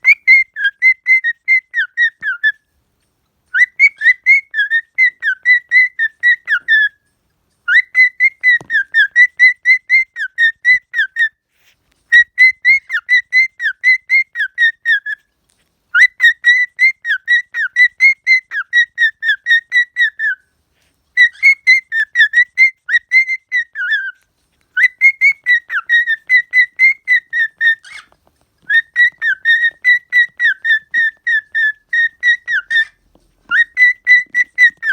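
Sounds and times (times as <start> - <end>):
cockatiel whistling song: 0.0 - 2.7, 3.5 - 11.4, 12.1 - 15.3, 15.9 - 20.5, 21.1 - 34.9.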